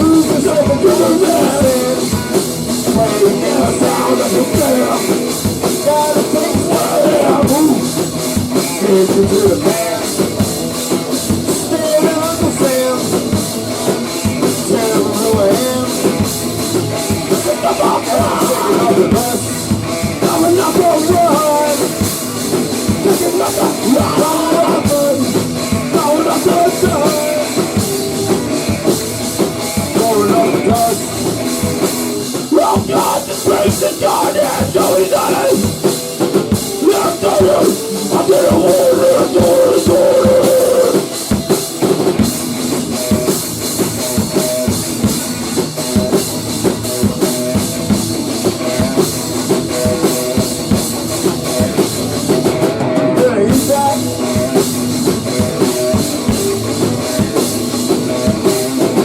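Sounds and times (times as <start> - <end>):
drum kit: 0.0 - 59.0
rock band playing: 0.0 - 59.0.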